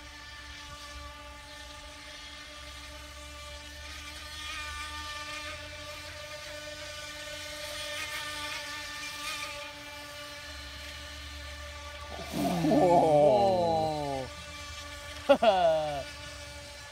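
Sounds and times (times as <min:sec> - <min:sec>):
rc boat motors whining: 0:00.0 - 0:16.9.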